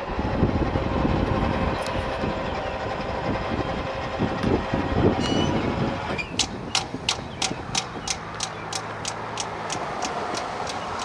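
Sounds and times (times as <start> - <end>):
freight train rumbling: 0.0 - 11.0
wheel clatter: 0.7 - 11.0.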